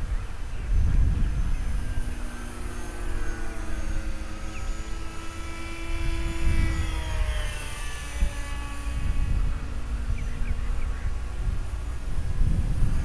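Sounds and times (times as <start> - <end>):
model jet engines whining: 0.0 - 13.0.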